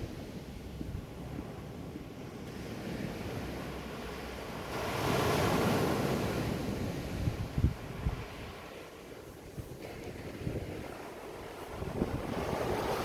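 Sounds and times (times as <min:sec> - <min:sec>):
wave breaking and washing in: 0:00.0 - 0:13.0
wind buffeting microphone: 0:00.0 - 0:13.0.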